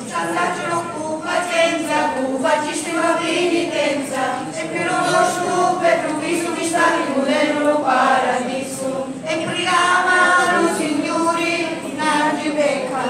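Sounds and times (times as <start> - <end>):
crowd singing a hymn: 0.0 - 13.0.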